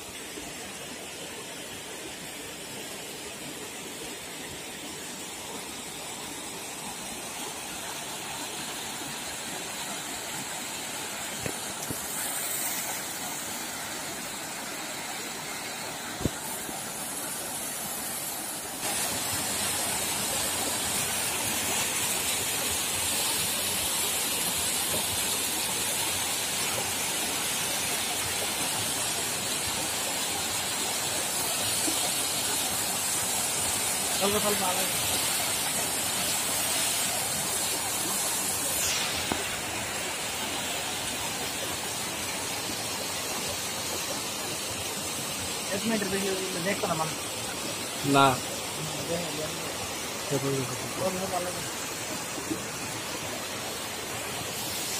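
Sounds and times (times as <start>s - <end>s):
waterfall splashing into pool: 3.2s - 54.9s.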